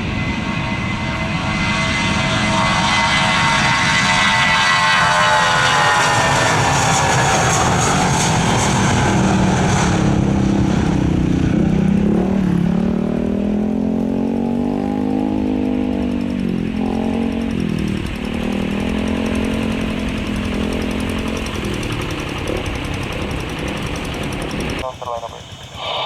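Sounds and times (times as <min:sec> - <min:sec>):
engine droning: 0:00.0 - 0:26.0
high whine: 0:00.0 - 0:26.0.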